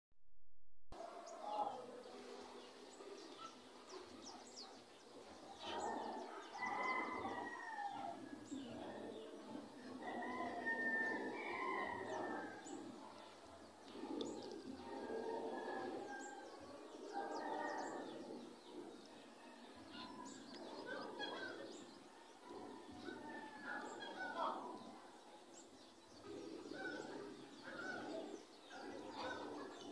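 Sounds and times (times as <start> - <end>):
birds chirping: 1.0 - 29.9.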